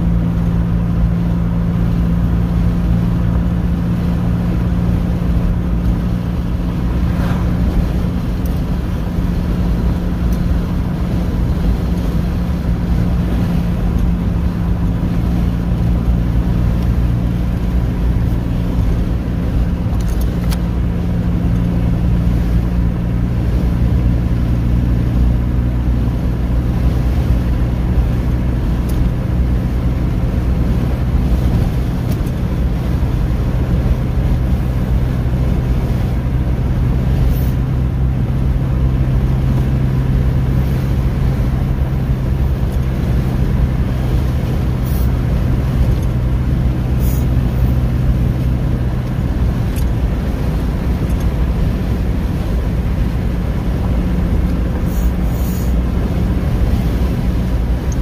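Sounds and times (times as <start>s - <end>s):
car engine and tyre hum: 0.0s - 58.0s.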